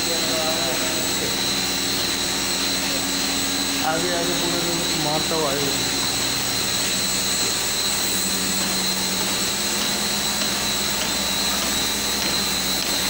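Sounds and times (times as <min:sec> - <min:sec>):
electric pump motors humming: 0:00.0 - 0:13.0.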